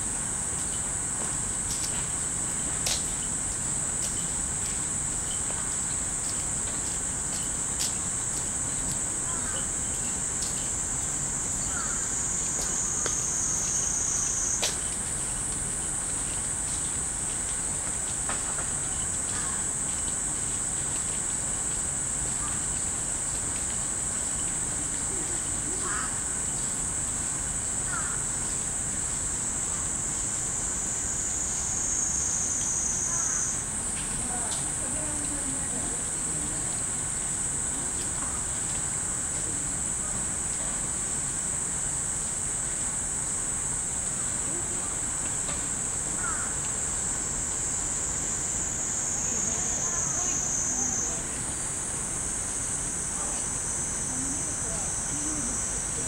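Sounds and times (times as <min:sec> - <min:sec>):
cicadas chorus: 0:00.0 - 0:56.0
high-pitched insect drone: 0:00.0 - 0:56.0.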